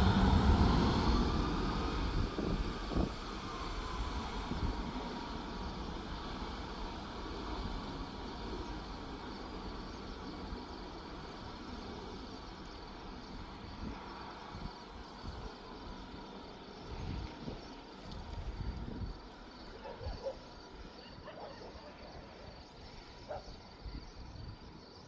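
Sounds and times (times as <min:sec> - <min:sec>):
wind buffeting microphone: 0:00.0 - 0:21.0
airliner engine rushing: 0:00.0 - 0:25.0.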